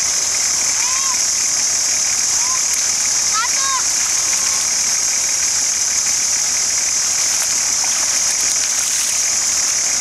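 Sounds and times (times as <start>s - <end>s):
high hiss: 0.0s - 10.0s.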